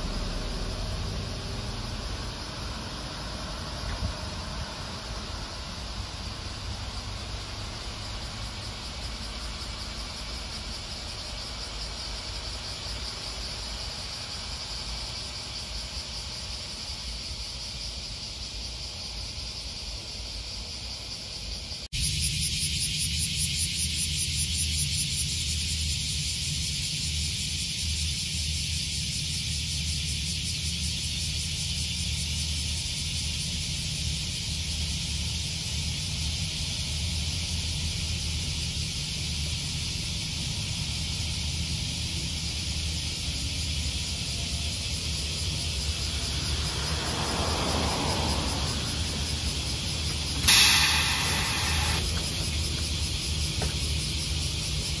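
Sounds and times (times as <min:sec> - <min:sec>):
cicadas chorus: 0:00.0 - 0:55.0
street traffic rumble: 0:00.0 - 0:55.0.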